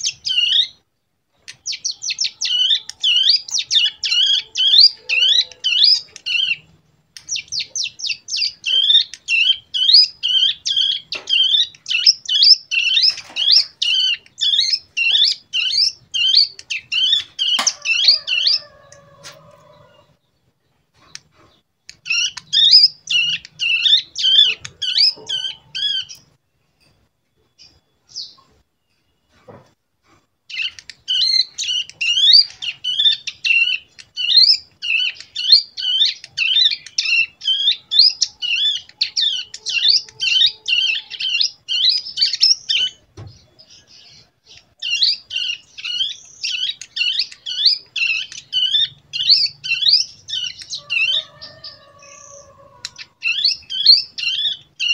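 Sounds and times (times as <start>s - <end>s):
bird chattering song: 0.0s - 0.8s, 1.4s - 19.3s, 19.9s - 26.4s, 30.5s - 54.9s.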